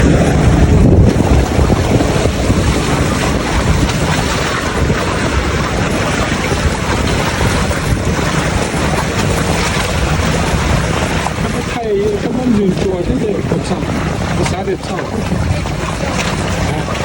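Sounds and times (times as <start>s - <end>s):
sea washing against rocks: 0.0s - 17.0s
wind buffeting microphone: 0.0s - 17.0s.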